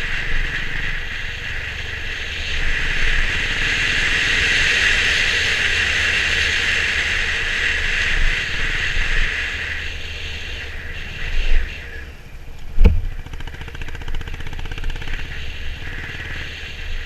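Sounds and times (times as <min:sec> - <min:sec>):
motorcycle engine rumble: 0:00.0 - 0:17.0
wind and road rush: 0:00.0 - 0:17.0.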